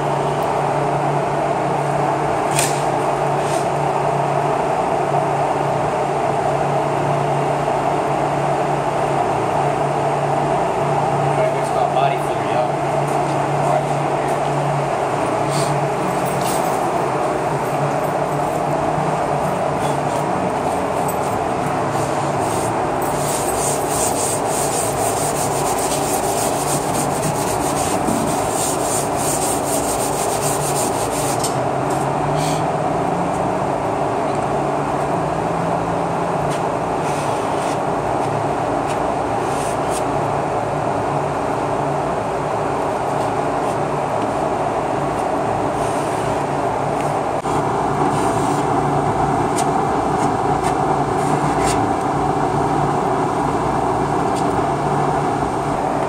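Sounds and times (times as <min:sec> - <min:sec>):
loud shop drone: 0:00.0 - 0:56.0.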